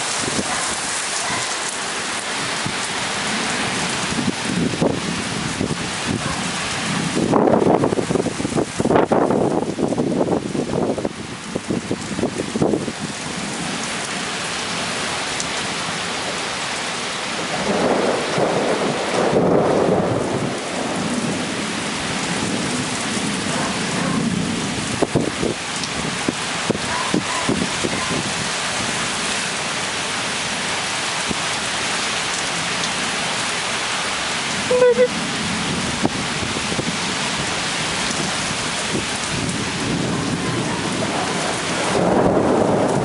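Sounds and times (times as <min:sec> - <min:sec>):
thunder rumbling: 0:00.0 - 0:13.9, 0:17.3 - 0:29.6, 0:34.6 - 0:43.0
heavy rain pouring: 0:00.0 - 0:43.0.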